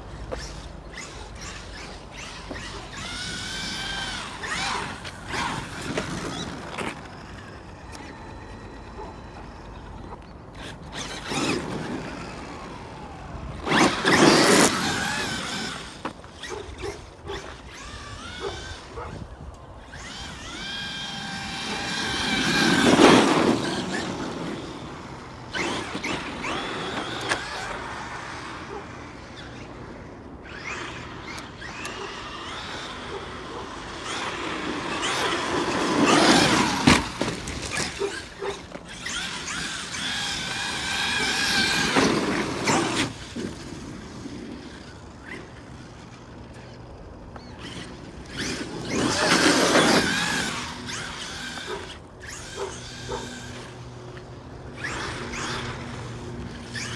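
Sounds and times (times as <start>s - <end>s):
toy truck motor whining: 0.0s - 56.9s.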